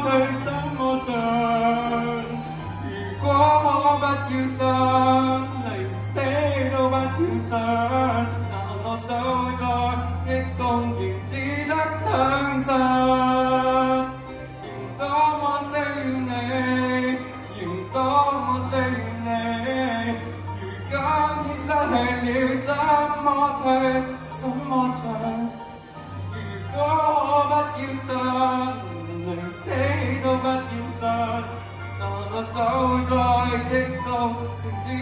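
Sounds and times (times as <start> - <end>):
man singing pop song: 0.0 - 35.0.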